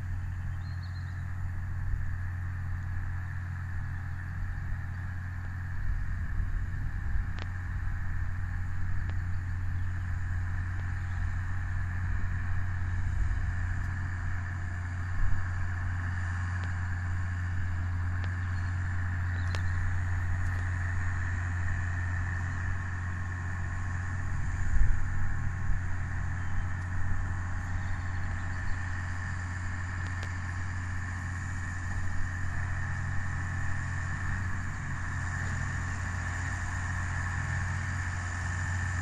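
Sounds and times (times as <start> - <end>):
baler machinery hum: 0.0 - 39.0
tractor engine drone: 0.0 - 39.0.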